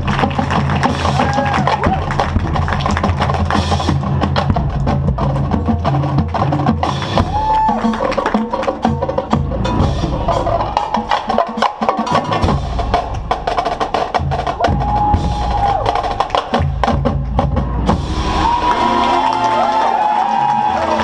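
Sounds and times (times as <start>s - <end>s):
snare and tenor drums: 0.0s - 18.4s
bass drum notes: 0.0s - 18.8s.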